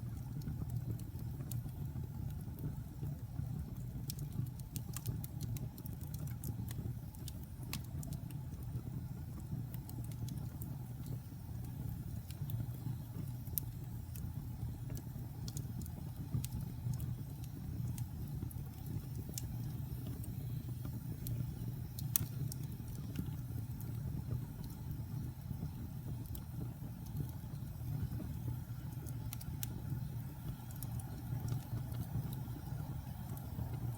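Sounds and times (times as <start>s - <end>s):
burning logs crackling and popping: 0.0s - 33.9s
fire flames rumbling: 0.0s - 33.9s.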